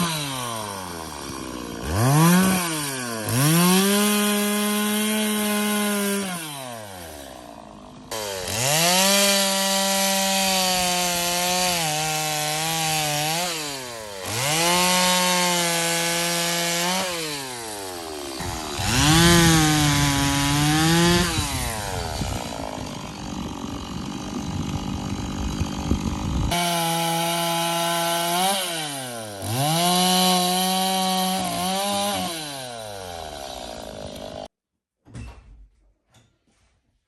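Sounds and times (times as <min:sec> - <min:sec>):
chainsaw cutting wood: 0:00.0 - 0:34.5
chainsaw revving: 0:00.0 - 0:34.5.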